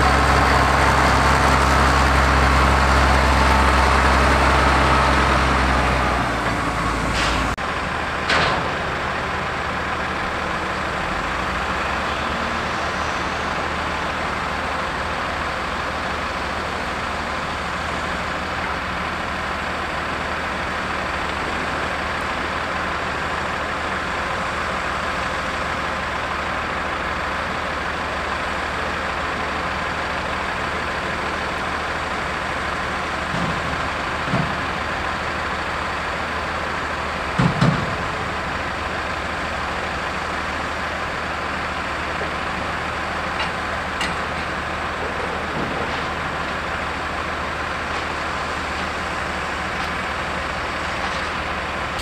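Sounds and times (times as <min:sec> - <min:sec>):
diesel engines droning: 0:00.0 - 0:52.0.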